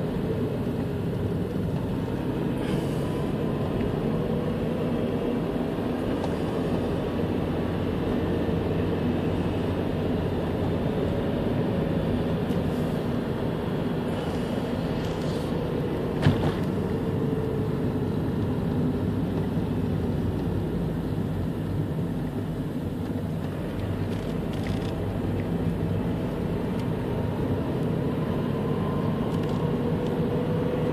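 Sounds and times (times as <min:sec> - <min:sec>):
car engine and tyre noise: 0:00.0 - 0:30.9.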